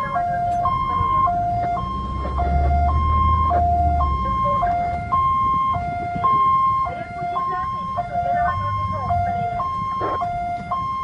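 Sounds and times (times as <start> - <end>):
ambulance siren two-tone: 0.0 - 11.0.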